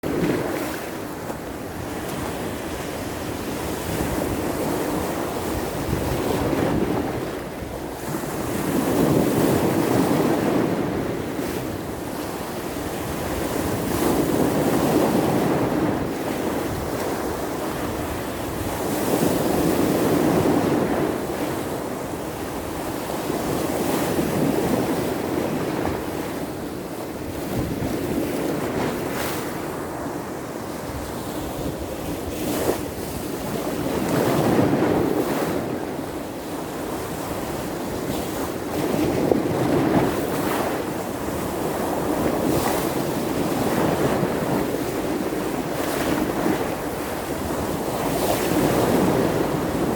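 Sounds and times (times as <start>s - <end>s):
sea surf breaking on shore: 0.0s - 49.9s.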